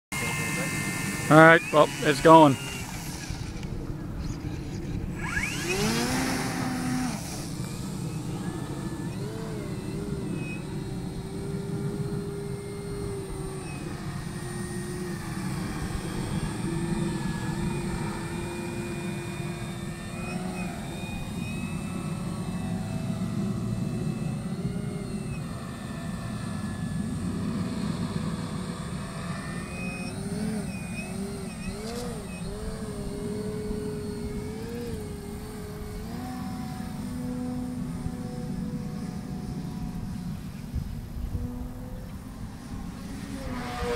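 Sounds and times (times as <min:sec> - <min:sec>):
model plane motor and propeller: 0:00.1 - 0:43.9.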